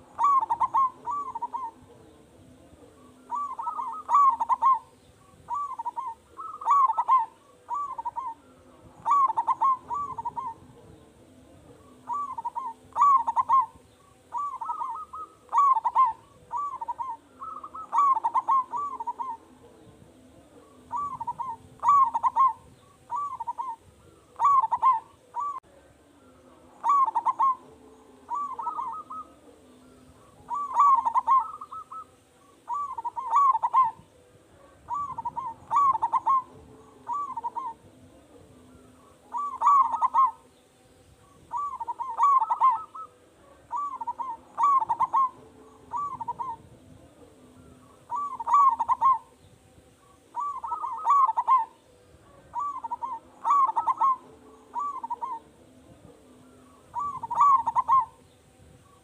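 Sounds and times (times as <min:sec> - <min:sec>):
dove cooing: 0:00.0 - 0:40.6, 0:41.2 - 0:59.0.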